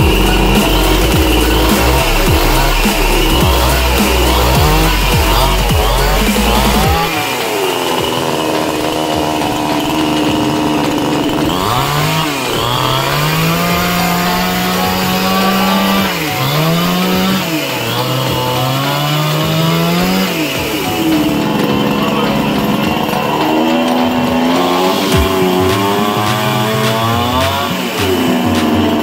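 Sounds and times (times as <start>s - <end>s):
chainsaw engine revving: 0.0s - 29.0s.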